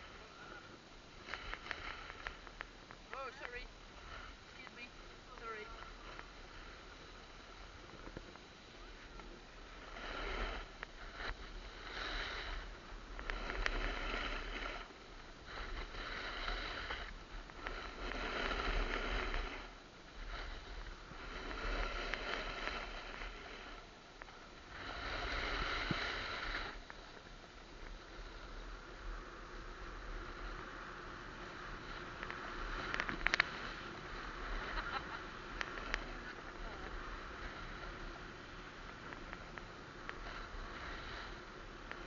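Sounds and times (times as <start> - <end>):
snowboard scraping on snow: 0.0 - 42.0.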